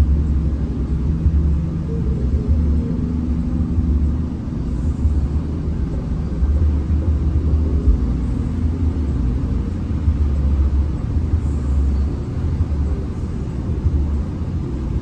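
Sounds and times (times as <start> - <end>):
bus diesel engine rumble: 0.0 - 15.0
road noise: 0.0 - 15.0.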